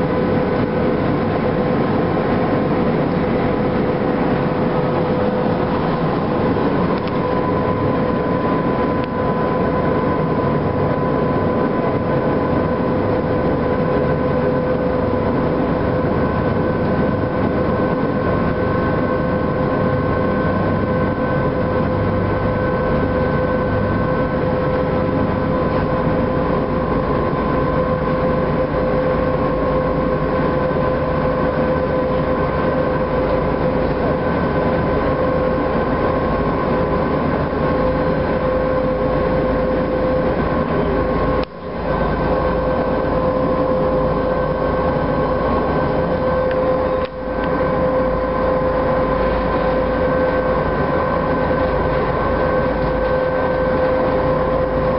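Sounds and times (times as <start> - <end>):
ship engines droning: 0.0 - 54.9.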